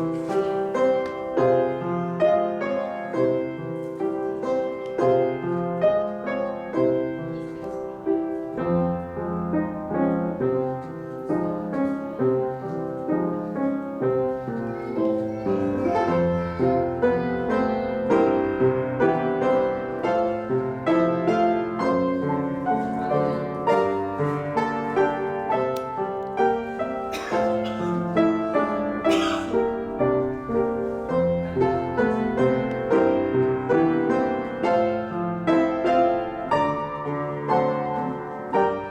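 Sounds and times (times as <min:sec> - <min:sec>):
classical piano accompaniment: 0:00.0 - 0:38.9.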